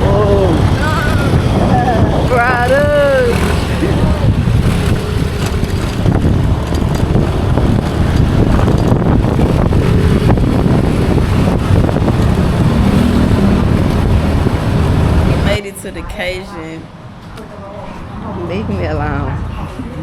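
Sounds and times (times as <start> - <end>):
vehicle engine and road noise: 0.0 - 20.0
wind buffeting microphone: 0.0 - 20.0.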